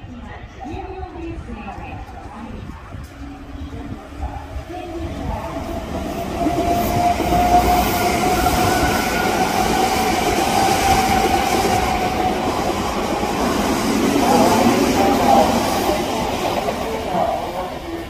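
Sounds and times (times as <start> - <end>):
train wheels rumbling on rails: 0.2 - 18.0.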